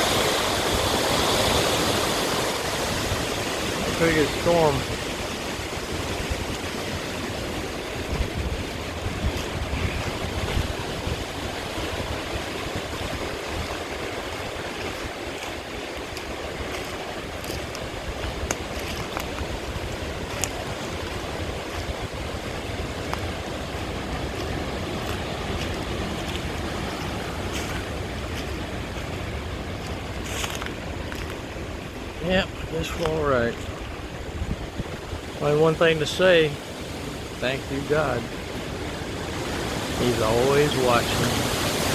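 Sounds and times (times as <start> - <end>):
wind buffeting microphone: 0.0 - 35.6
hurricane wind rushing: 0.0 - 41.9.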